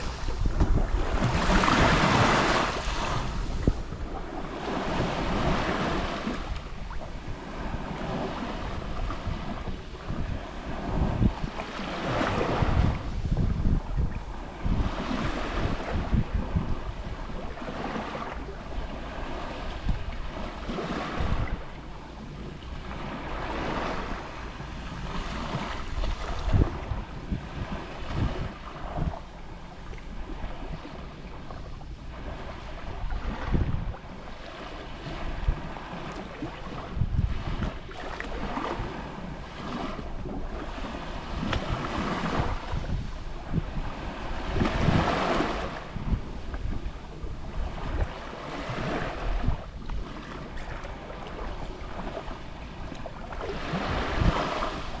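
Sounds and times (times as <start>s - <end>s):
small waves lapping on shore: 0.0s - 55.0s
wind buffeting microphone: 0.0s - 55.0s.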